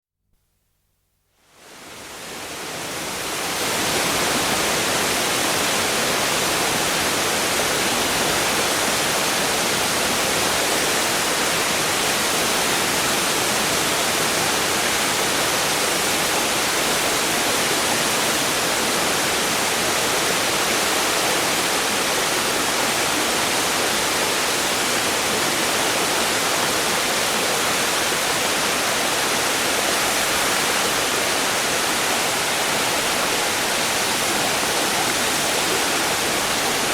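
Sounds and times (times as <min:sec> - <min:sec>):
waterfall hissing: 0:01.7 - 0:36.9.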